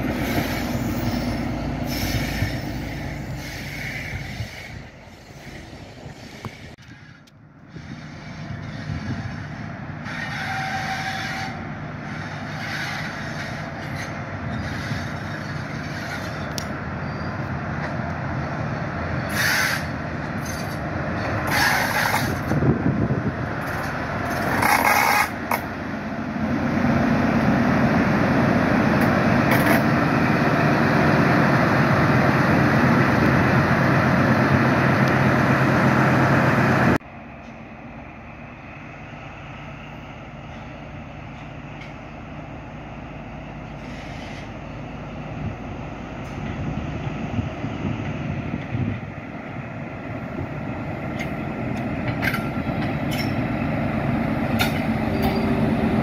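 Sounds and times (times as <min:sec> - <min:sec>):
diesel engine drone: 0:00.0 - 0:56.0
train coaches rolling past: 0:00.0 - 0:56.0.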